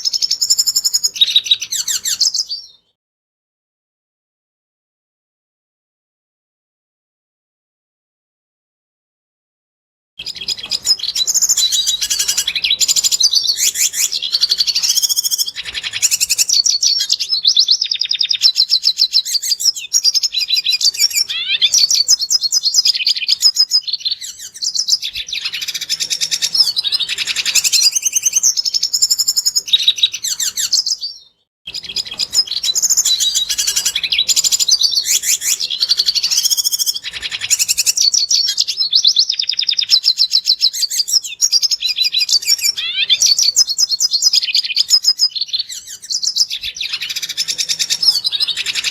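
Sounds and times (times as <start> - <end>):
bird twittering song: 0.0 - 3.0, 10.2 - 48.9.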